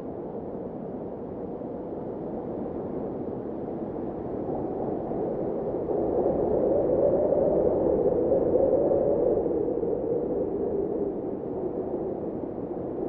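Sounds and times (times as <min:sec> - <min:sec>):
blizzard wind howling: 0:01.1 - 0:13.0.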